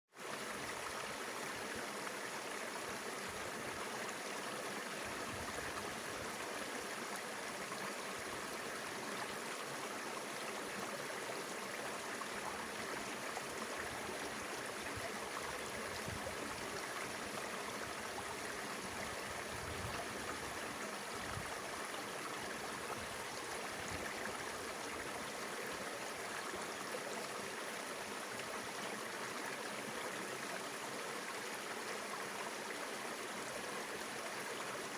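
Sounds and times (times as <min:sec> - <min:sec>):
river water flowing over rocks: 0:00.2 - 0:34.9.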